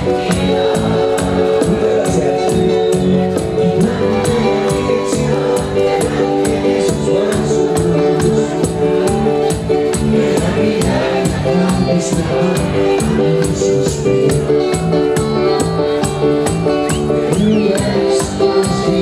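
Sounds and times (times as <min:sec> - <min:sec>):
crisp percussion rhythm: 0:00.0 - 0:19.0
live band music: 0:00.0 - 0:19.0.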